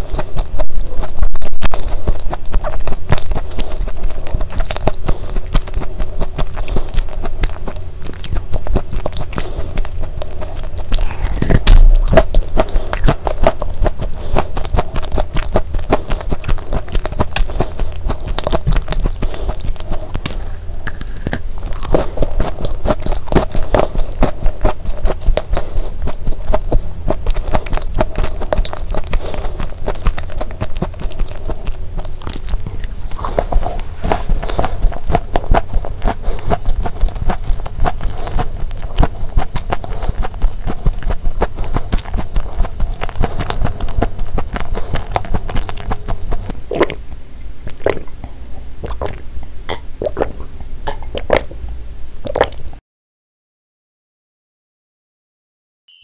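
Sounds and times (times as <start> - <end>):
chewing and biting cookie: 0.0 - 51.6, 52.2 - 52.7.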